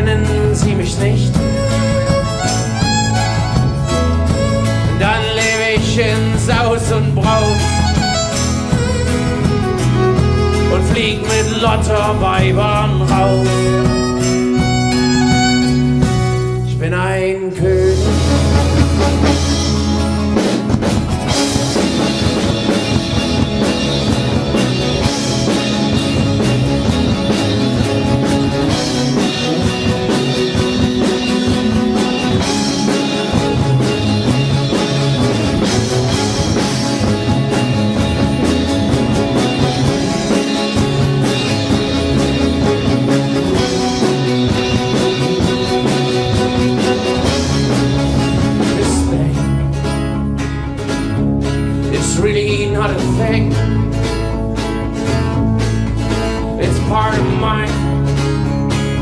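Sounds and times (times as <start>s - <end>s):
fiddle: 0.0s - 17.0s, 18.0s - 49.3s
drum kit: 0.0s - 59.0s
electric bass: 0.0s - 59.0s
guitar: 0.0s - 59.0s.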